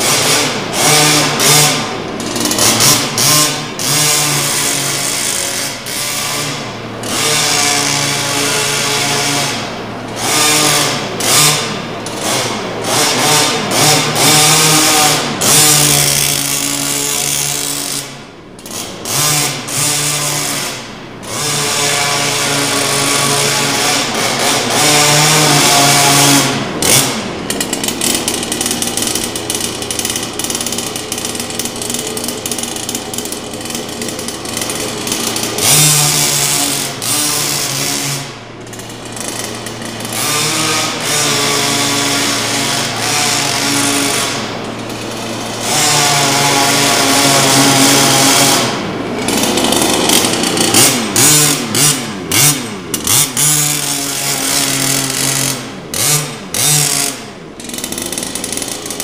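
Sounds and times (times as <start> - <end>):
small two-stroke engine revving: 0.0 - 59.0.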